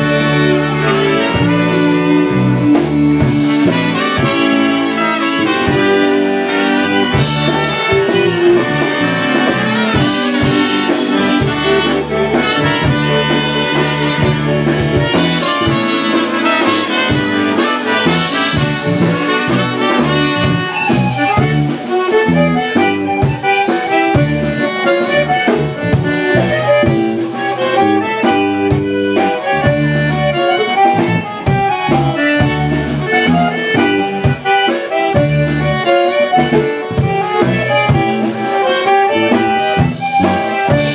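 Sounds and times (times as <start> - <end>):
polka band playing: 0.0 - 40.9.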